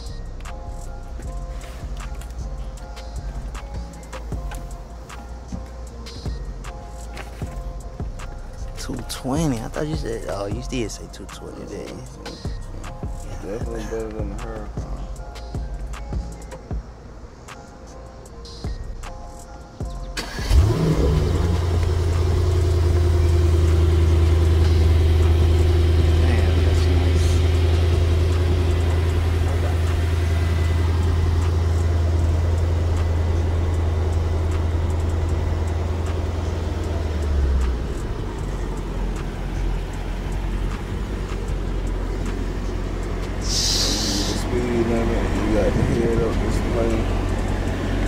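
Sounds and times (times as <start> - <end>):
car engine starting and idling: 0.0 - 48.0.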